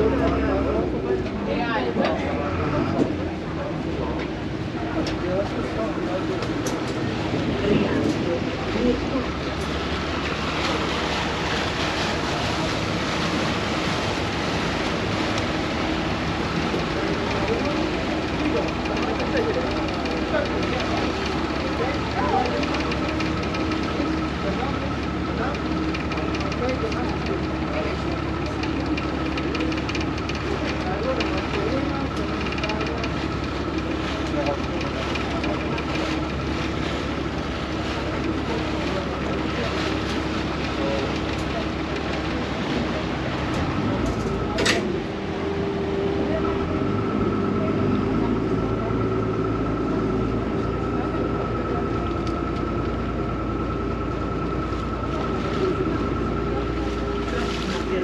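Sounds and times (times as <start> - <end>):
boat engine hum: 0.0 - 58.0
rushing water: 0.0 - 58.0
wind: 0.0 - 58.0.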